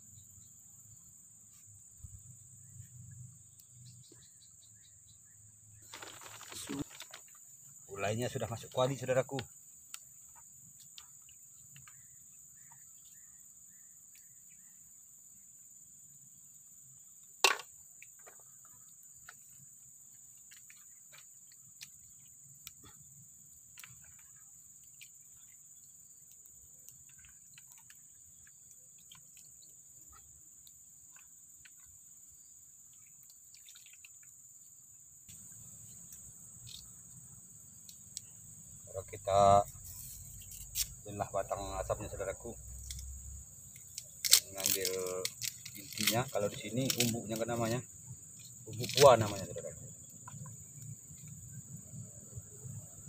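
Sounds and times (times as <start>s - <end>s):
crickets droning: 0.0s - 53.0s.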